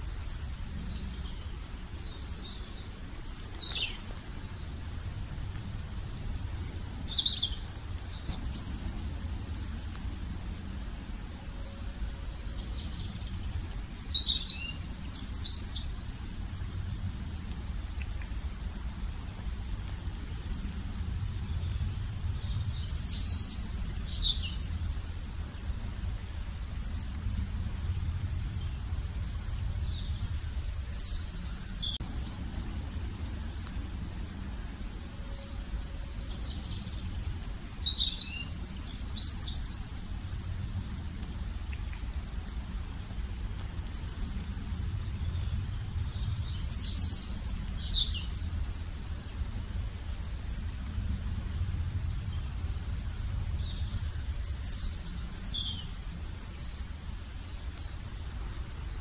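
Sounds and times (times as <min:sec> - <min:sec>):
low rumble: 0:00.0 - 0:39.1, 0:40.0 - 0:56.3
songbird chirping: 0:00.0 - 0:59.0.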